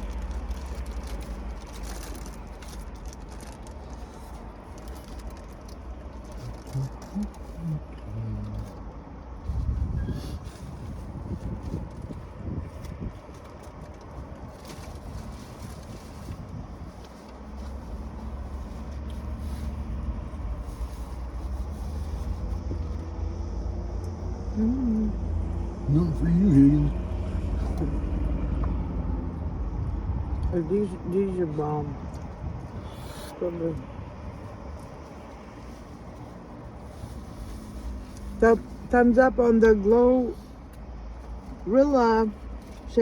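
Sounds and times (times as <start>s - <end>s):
low rumble inside car: 0.0s - 43.0s.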